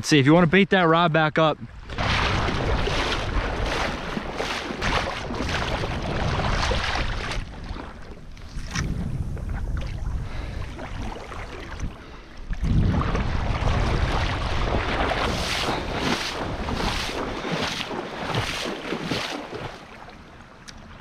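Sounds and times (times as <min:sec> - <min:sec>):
wind buffeting microphone: 0:01.6 - 0:19.8
footsteps splashing in water: 0:01.8 - 0:21.0.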